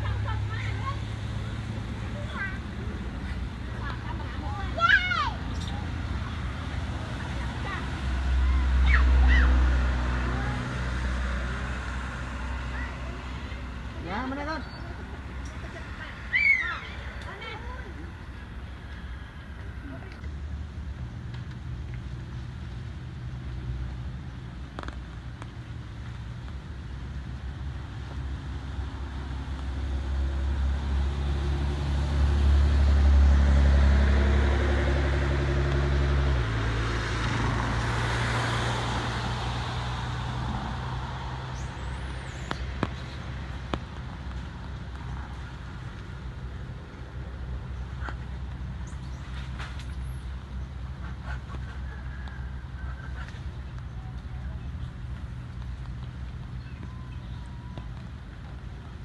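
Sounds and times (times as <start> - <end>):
vehicle engine passing by: 0.0 - 16.3, 27.0 - 58.7
road noise rush: 0.0 - 59.0.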